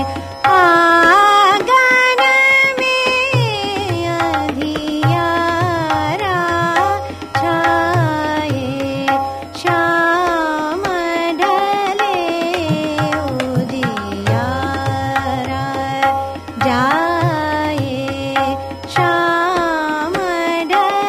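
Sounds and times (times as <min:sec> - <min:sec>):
indian classical melody: 0:00.0 - 0:21.0
tabla: 0:00.0 - 0:21.0.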